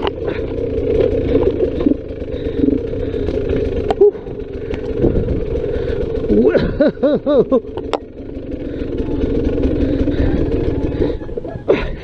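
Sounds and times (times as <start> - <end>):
dirt bike engine running: 0.0 - 12.0
engine throttle blip: 0.0 - 12.0.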